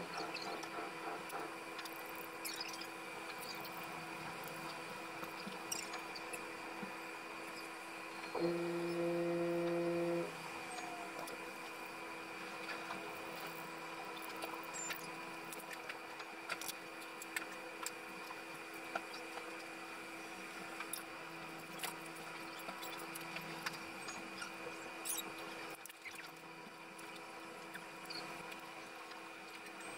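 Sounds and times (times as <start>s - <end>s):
steady electrical hum: 0.0s - 29.9s.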